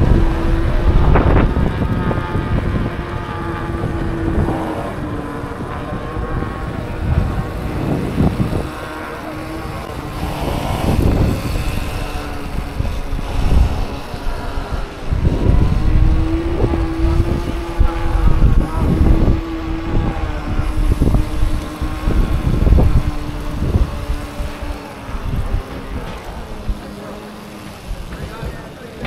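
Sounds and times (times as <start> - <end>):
steady electric hum: 0.0 - 28.4
wind buffeting microphone: 0.0 - 29.0.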